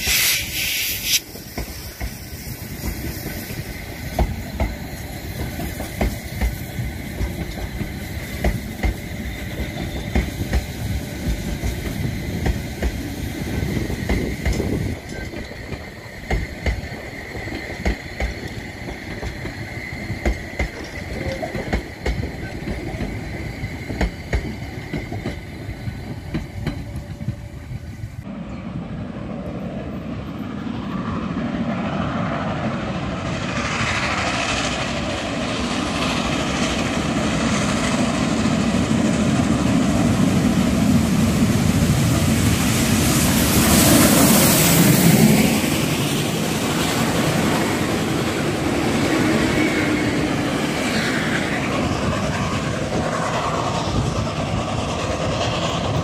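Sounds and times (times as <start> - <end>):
railway coaches rolling on rails: 0.0 - 56.0
steam locomotive working under steam: 0.0 - 56.0.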